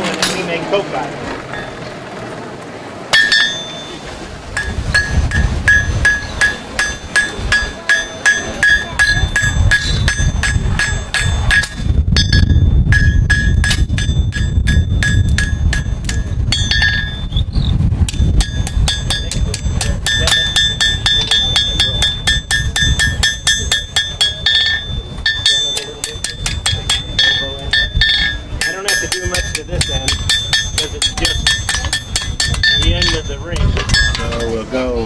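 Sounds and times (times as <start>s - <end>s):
hammer striking anvil: 0.2s - 0.5s, 1.5s - 1.8s, 3.1s - 17.3s, 18.1s - 34.6s
low rumble: 1.1s - 34.4s.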